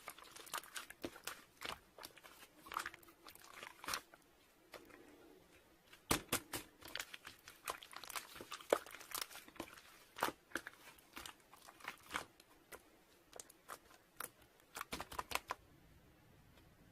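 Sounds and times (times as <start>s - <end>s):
crinkling crackles: 0.0s - 15.6s.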